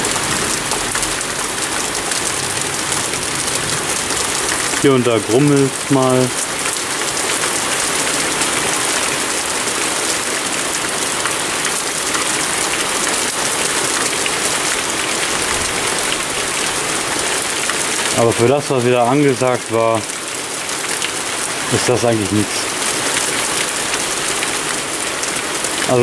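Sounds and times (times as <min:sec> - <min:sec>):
heavy rain on roofs and foliage: 0:00.0 - 0:26.0.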